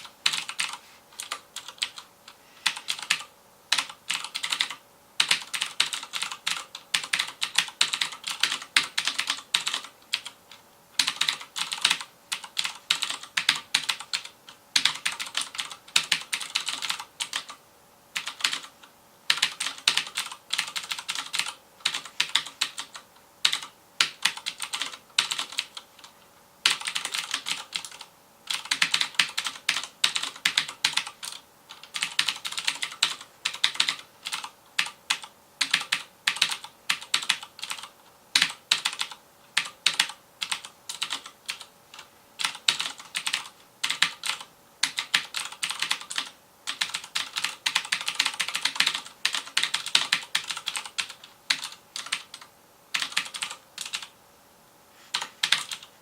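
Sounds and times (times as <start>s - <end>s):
clicky mechanical keyboard typing: 0.2s - 17.6s, 18.2s - 54.1s, 55.1s - 55.9s.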